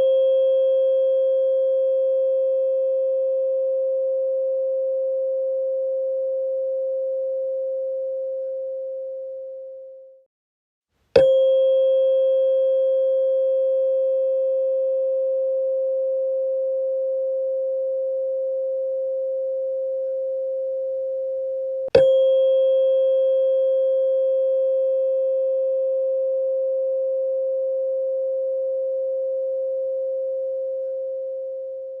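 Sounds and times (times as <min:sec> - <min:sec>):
tuning fork metallic ping: 0:00.0 - 0:10.2, 0:11.2 - 0:32.0
tuning fork ringing: 0:00.0 - 0:10.2, 0:11.2 - 0:32.0.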